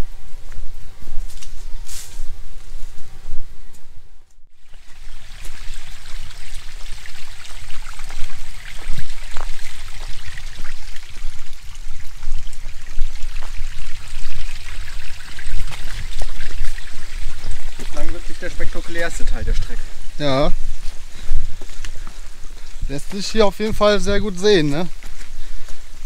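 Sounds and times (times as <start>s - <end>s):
stream water running: 4.5s - 26.0s.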